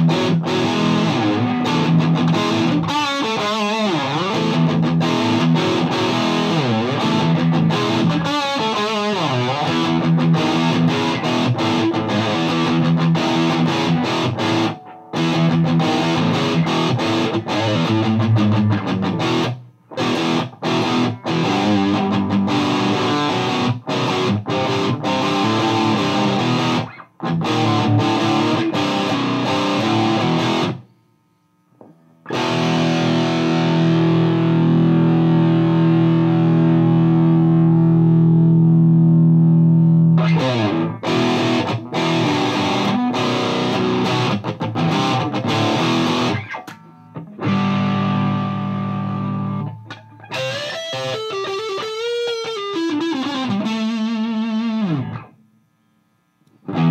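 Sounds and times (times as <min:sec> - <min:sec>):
distorted electric guitar riffs: 0:00.0 - 0:56.9.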